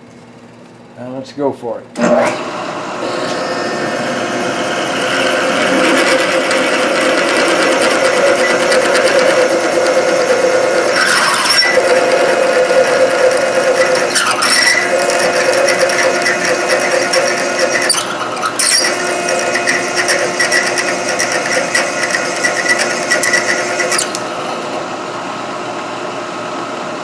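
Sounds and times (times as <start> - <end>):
drill grinding into metal: 2.0 - 24.6.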